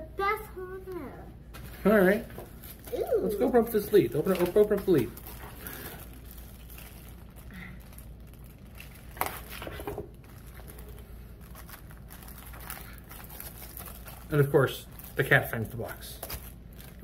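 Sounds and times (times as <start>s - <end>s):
plastic bag crinkling: 2.5s - 17.0s.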